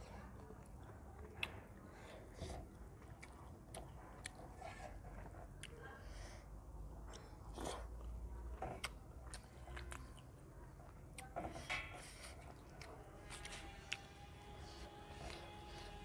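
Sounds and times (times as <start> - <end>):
person chewing food: 0.0 - 6.0, 6.8 - 16.0.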